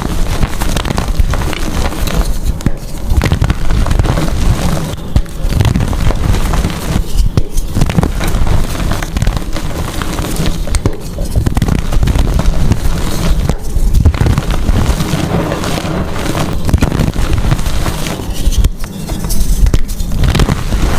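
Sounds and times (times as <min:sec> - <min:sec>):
chalk crunching: 0:00.0 - 0:20.9.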